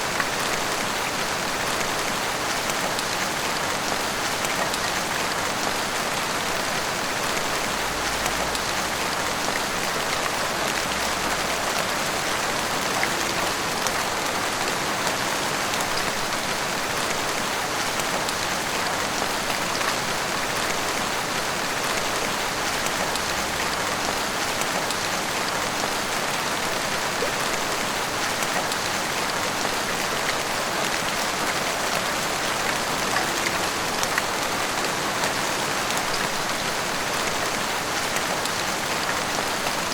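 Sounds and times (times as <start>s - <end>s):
heavy rain on rooftops: 0.0s - 39.9s.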